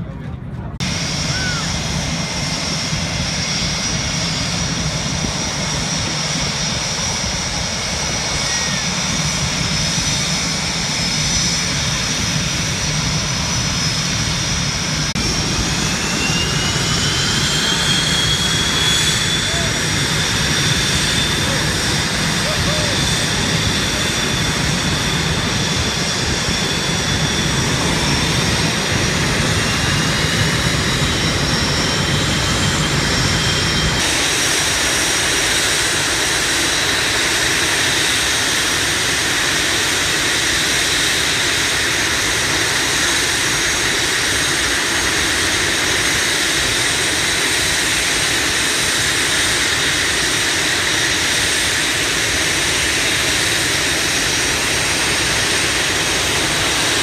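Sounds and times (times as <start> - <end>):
jet engines roaring: 0.0 - 57.0
jet taxiing: 0.0 - 57.0.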